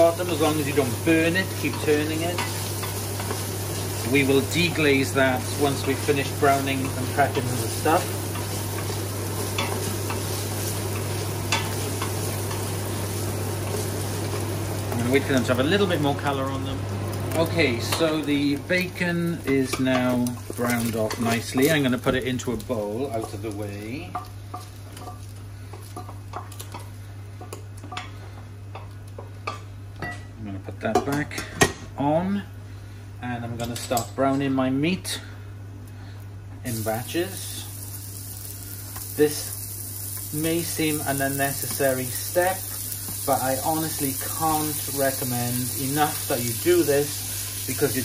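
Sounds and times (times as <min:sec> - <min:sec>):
bacon sizzling: 0:00.0 - 0:29.8, 0:36.6 - 0:48.0.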